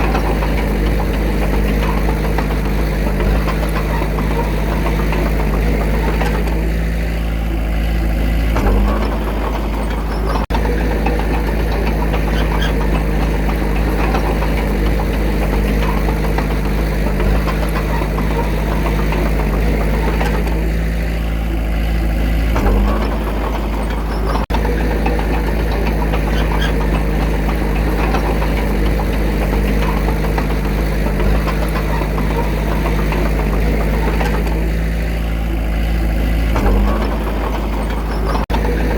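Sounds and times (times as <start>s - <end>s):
diesel engine working: 0.0s - 38.9s.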